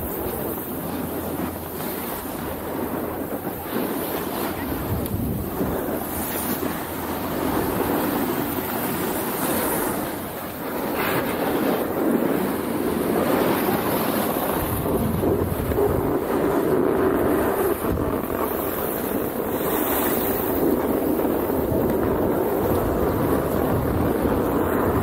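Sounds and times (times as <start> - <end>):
snowboard scraping over snow: 0.0 - 25.0
wind rushing over microphone: 0.0 - 25.0.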